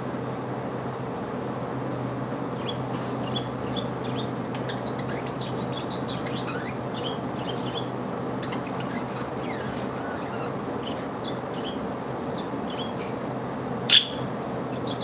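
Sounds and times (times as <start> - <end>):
steady low hum: 0.0 - 15.0
birds twittering: 2.5 - 15.0.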